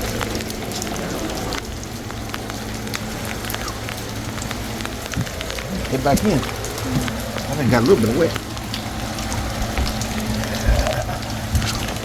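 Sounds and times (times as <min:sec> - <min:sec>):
heavy rain falling: 0:00.0 - 0:12.0
raindrops ticking close by: 0:00.0 - 0:12.0.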